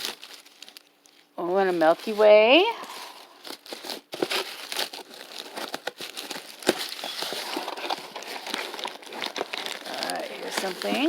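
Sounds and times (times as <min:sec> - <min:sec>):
wrappers and paper crinkling: 0:00.0 - 0:11.0.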